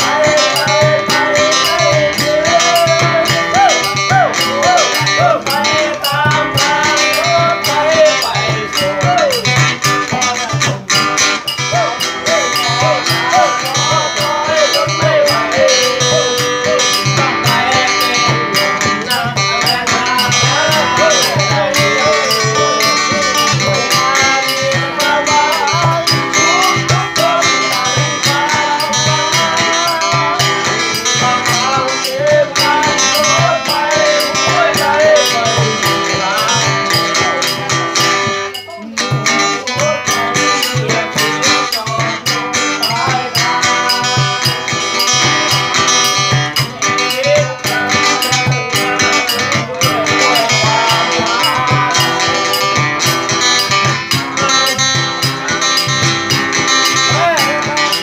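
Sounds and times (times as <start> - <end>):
guitars strumming: 0.0 - 58.0
man singing: 0.0 - 58.0.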